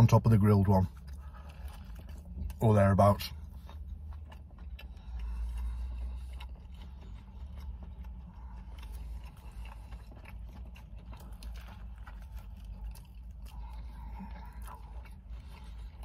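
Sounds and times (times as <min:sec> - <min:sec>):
chewing crunches: 0:00.0 - 0:16.0
steady low rumble: 0:00.0 - 0:16.0.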